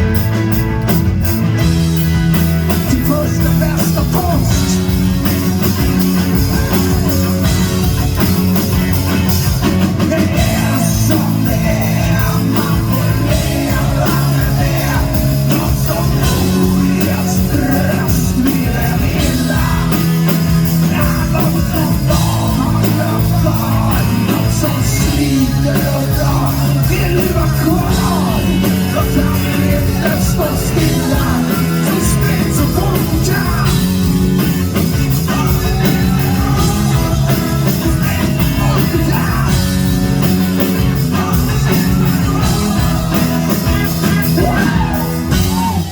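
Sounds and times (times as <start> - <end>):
live rock band playing: 0.0 - 45.9
man singing lead vocals: 2.6 - 45.9.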